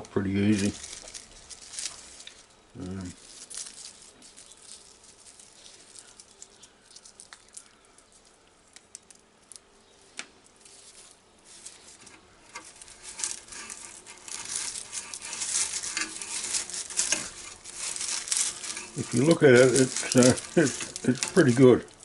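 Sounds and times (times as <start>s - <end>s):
leaves rustling and tearing: 0.0s - 22.0s
light crackles: 0.0s - 22.0s.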